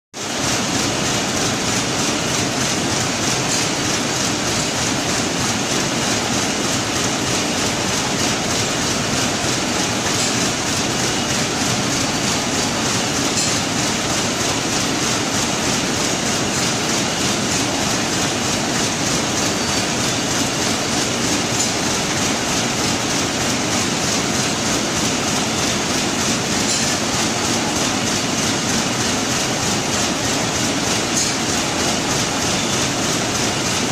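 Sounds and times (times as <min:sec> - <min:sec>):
knitting machine clatter: 0:00.3 - 0:33.9.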